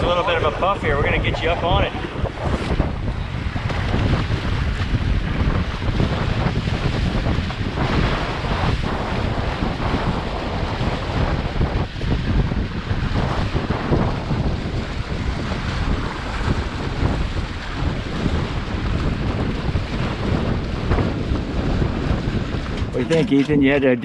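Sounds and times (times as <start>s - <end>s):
water rushing along hulls: 0.0s - 24.0s
wind buffeting microphone: 0.0s - 24.0s.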